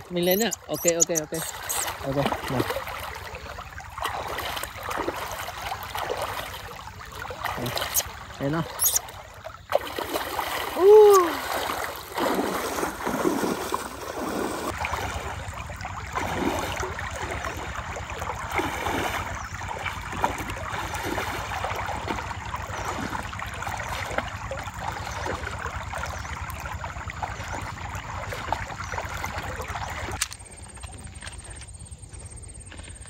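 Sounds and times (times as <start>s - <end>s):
river water flowing and splashing: 0.0s - 31.7s
person wading through water: 0.0s - 33.0s.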